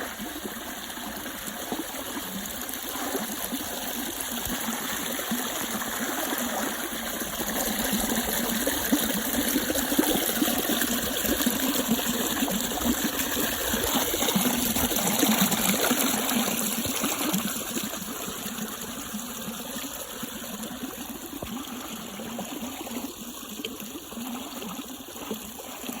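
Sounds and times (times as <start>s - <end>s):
water flowing in a stream: 0.0s - 26.0s.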